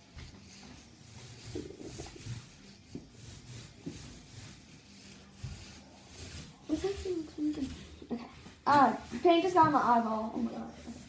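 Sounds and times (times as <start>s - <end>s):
paint roller rubbing on wall: 0.0s - 11.0s.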